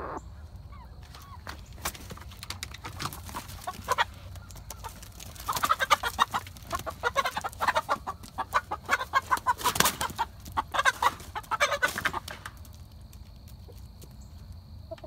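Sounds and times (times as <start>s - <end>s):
chickens clucking and squawking: 0.0s - 15.0s.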